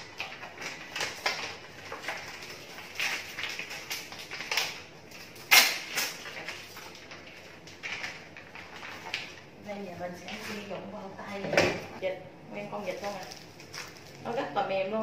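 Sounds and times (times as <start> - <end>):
plastic bag crinkling: 0.0 - 10.7, 12.7 - 14.5.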